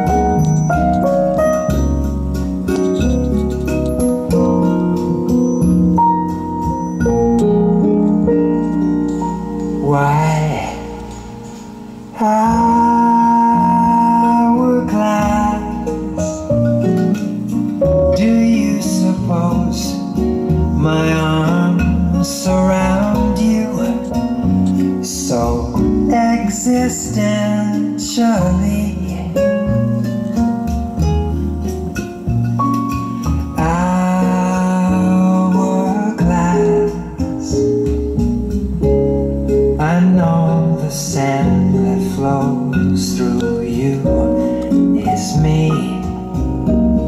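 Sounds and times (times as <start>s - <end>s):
acoustic guitar music over speakers: 0.0s - 47.0s.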